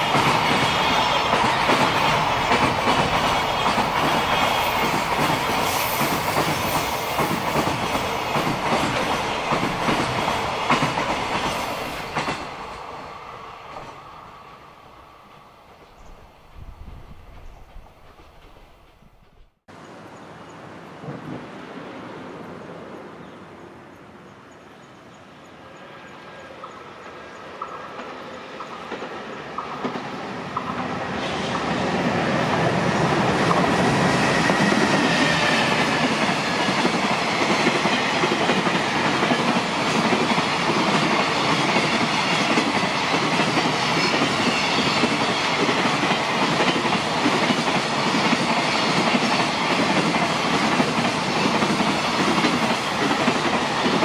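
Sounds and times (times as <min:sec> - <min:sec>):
train wheels clacking over rails: 0:00.0 - 0:14.1, 0:15.8 - 0:19.6, 0:26.6 - 0:54.0
freight train passing: 0:00.0 - 0:54.0.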